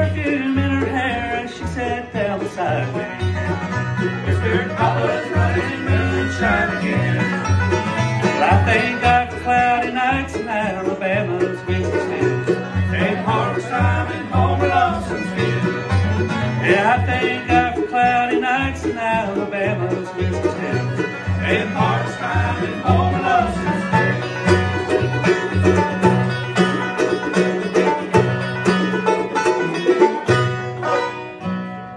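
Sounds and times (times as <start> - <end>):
bluegrass band playing: 0.0 - 31.9
fiddle and banjo melody: 0.0 - 31.9
upright bass low notes: 0.0 - 31.9.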